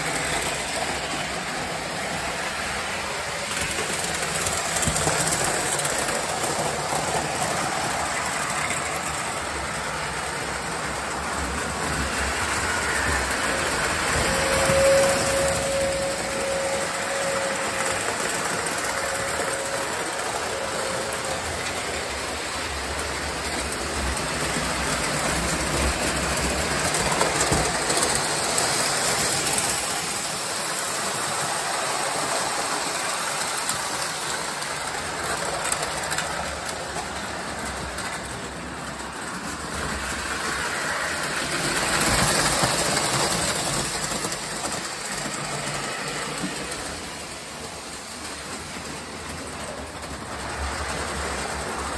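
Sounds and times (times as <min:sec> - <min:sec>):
model trains rumbling on track: 0:00.0 - 0:51.9.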